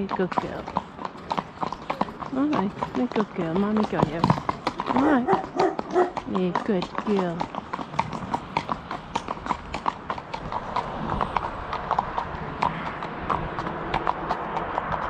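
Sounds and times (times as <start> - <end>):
hooves clip-clopping on tarmac: 0.0 - 15.0.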